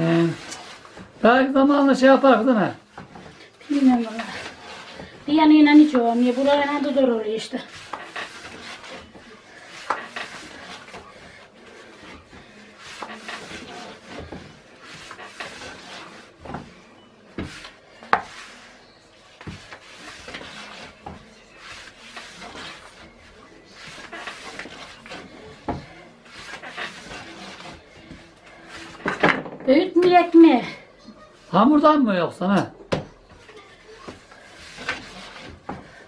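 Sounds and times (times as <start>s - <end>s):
rolling pin rubbing on wood: 0.0s - 16.7s, 17.4s - 29.2s, 34.1s - 36.0s.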